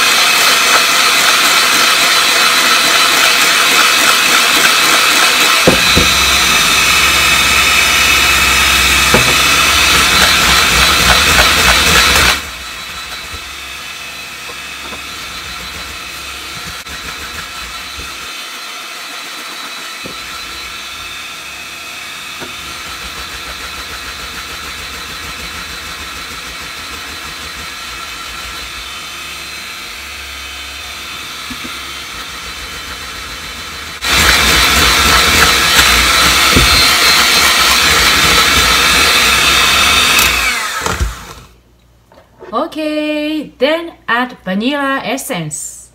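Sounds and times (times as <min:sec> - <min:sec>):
electric hand mixer running: 0:00.0 - 0:41.6.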